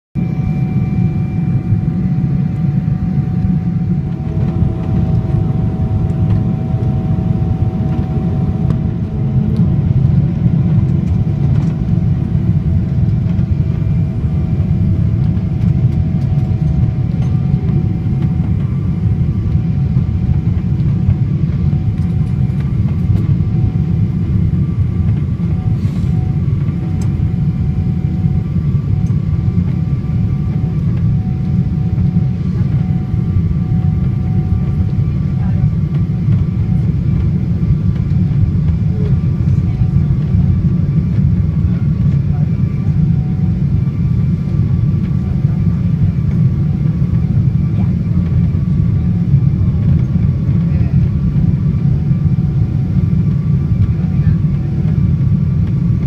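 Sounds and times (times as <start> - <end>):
airflow over wing: 0.2 - 56.0
faint whine: 0.2 - 56.0
jet engine rumble in cabin: 0.2 - 56.0.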